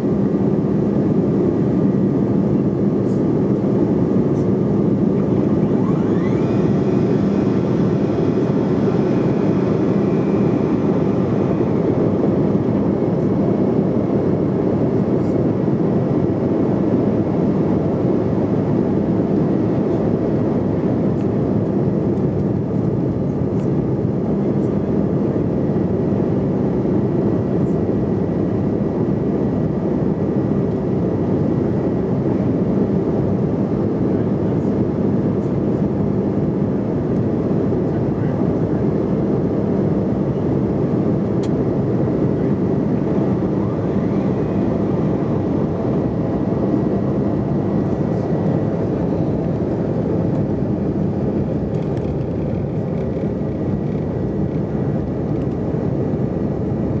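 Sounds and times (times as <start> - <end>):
airflow rushing in jet cabin: 0.0 - 57.0
jet engines humming: 0.0 - 57.0.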